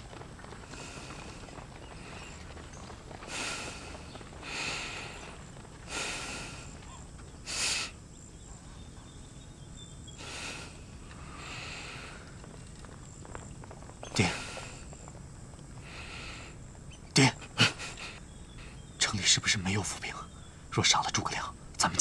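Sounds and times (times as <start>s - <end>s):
horses snorting and blowing: 0.0s - 19.0s
low outdoor background: 0.0s - 22.0s.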